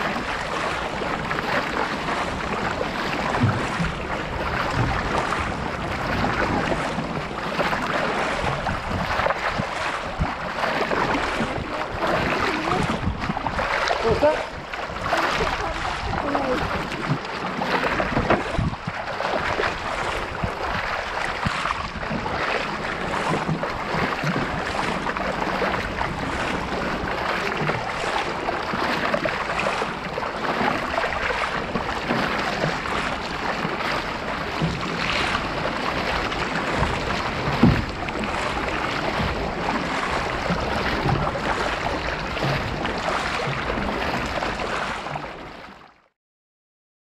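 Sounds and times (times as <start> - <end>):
sharp splash or knock: 0.0 - 45.2
paddle strokes splashing: 0.0 - 46.1
water rushing along a kayak bow: 0.0 - 46.2.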